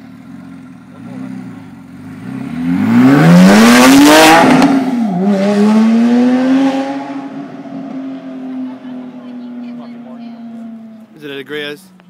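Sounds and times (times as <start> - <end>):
sports car accelerating past: 1.1 - 11.1.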